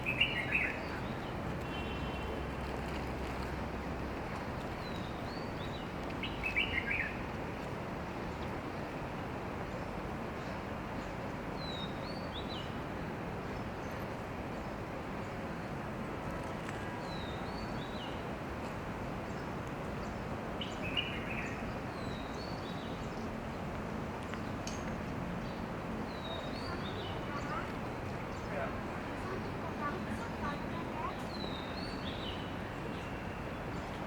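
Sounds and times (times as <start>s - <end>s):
outdoor background hiss: 0.0s - 34.0s.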